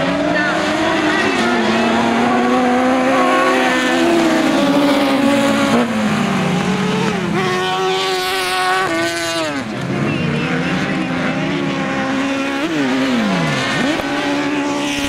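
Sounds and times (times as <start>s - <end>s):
racing buggy engines revving: 0.0s - 15.0s.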